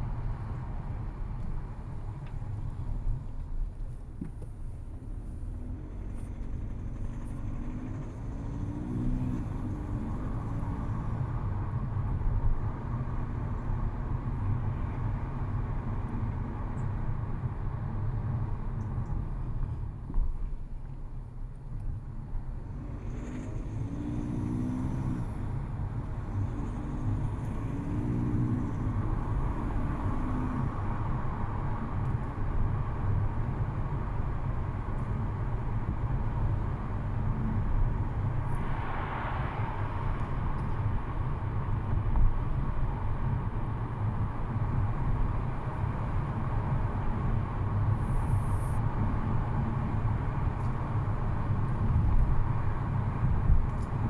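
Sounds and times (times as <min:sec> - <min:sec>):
diesel engine idling with rattle: 0:00.0 - 0:08.8, 0:10.3 - 0:38.5, 0:40.4 - 0:54.0.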